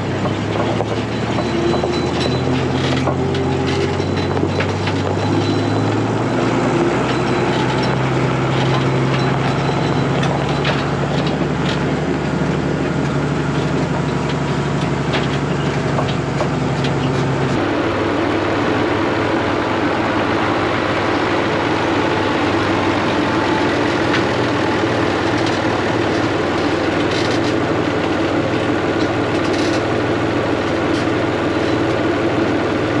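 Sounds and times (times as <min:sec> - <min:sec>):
combine harvester engine hum: 0:00.0 - 0:33.0.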